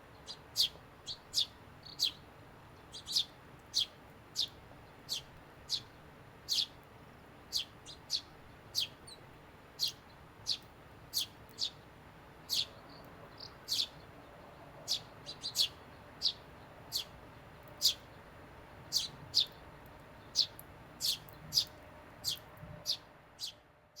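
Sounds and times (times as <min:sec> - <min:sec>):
sparrows chirping: 0:00.0 - 0:24.0.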